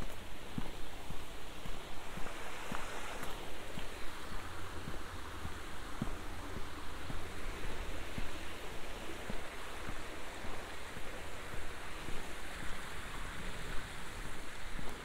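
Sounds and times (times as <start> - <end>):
footsteps on paved path: 0.0 - 15.0
rushing outdoor noise: 0.0 - 15.0.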